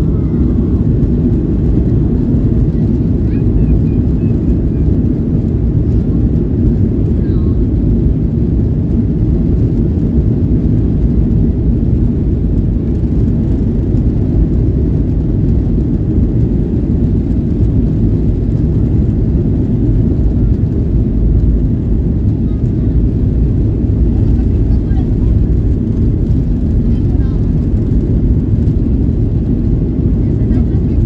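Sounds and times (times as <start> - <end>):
airplane cabin low rumble: 0.0 - 31.0.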